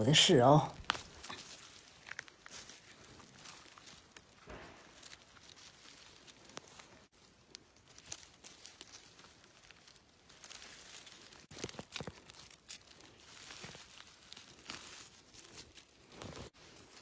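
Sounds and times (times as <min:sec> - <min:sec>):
rustling of dry leaf litter: 0:00.2 - 0:17.0
twigs snapping: 0:00.8 - 0:17.0.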